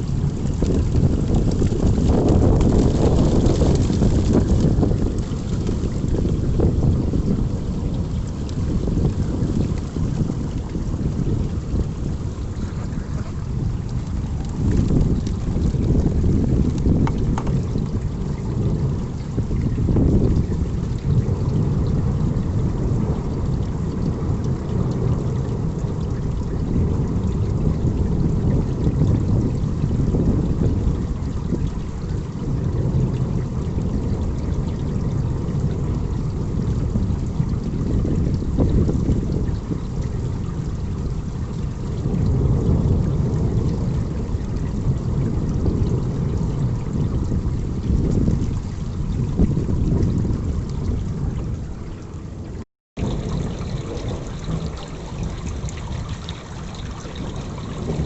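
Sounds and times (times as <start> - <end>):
deep thunder rumble: 0.0 - 58.0
rain patter: 0.0 - 58.0.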